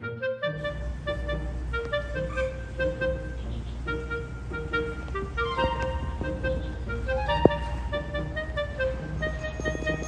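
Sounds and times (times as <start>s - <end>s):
instrumental melody: 0.0s - 10.0s
steady low rumble: 0.6s - 10.0s.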